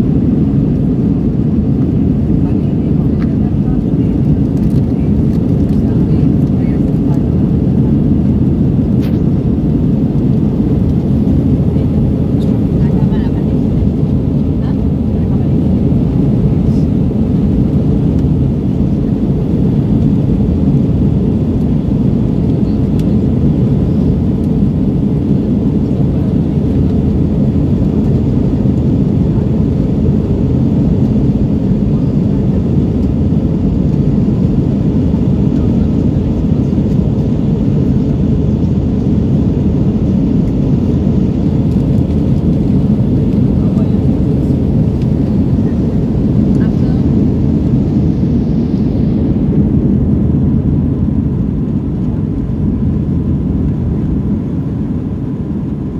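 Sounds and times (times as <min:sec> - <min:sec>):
airplane cabin roar: 0:00.0 - 0:55.9.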